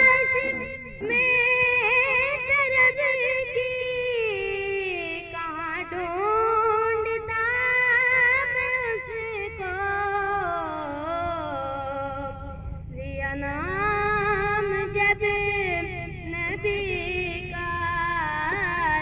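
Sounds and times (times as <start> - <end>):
boy singing through a microphone: 0.0 - 19.0.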